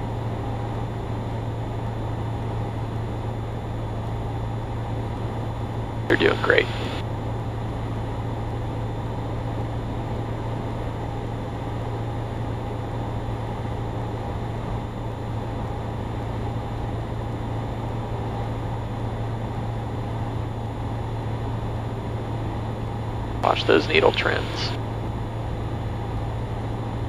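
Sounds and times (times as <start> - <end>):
small plane engine and propeller drone: 0.0 - 27.0.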